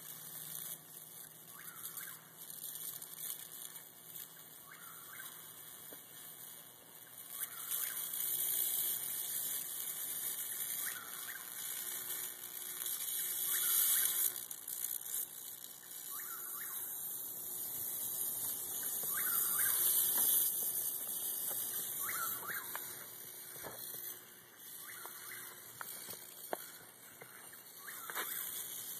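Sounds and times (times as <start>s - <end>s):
bug zapper sizzling crackle: 0.0s - 28.9s.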